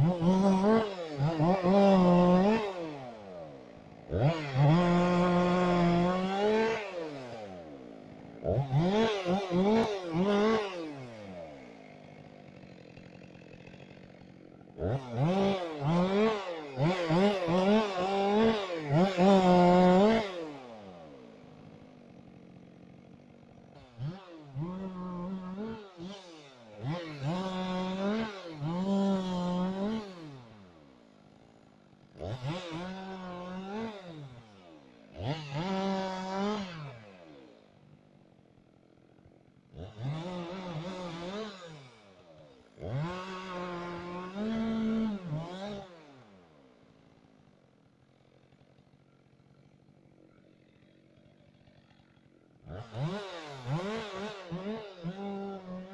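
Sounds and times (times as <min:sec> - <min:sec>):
chainsaw revving and idling: 0:00.0 - 0:55.9.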